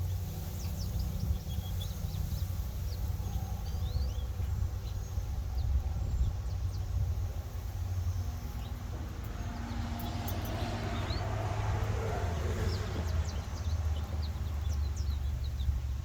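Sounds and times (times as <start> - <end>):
small birds chirping: 0.0 - 16.0
wind buffeting microphone: 0.0 - 16.0.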